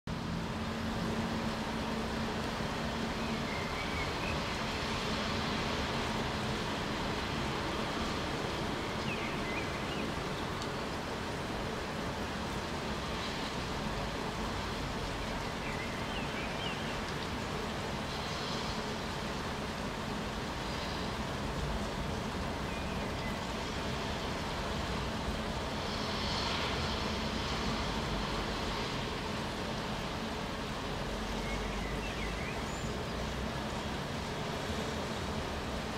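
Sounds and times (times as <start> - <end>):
wind: 0.0 - 35.9
rain: 0.1 - 35.9.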